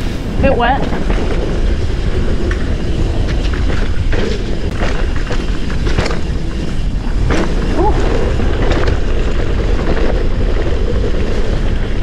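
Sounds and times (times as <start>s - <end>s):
bike clattering and rattling: 0.0s - 12.0s
tyre and wind rumble: 0.0s - 12.0s.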